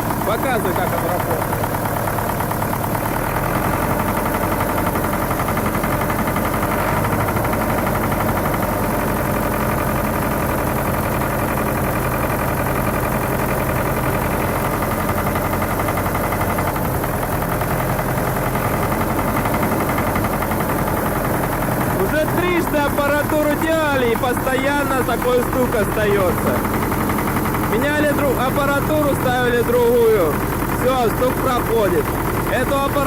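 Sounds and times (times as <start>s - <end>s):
tractor diesel engine knocking: 0.0s - 33.0s.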